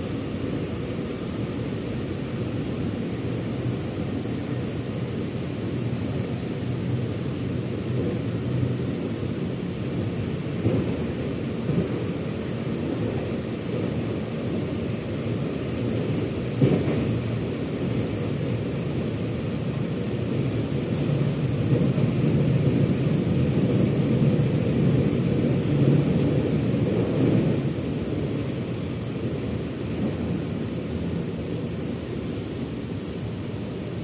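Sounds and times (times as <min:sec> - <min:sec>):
metro train rumbling: 0:00.0 - 0:34.0.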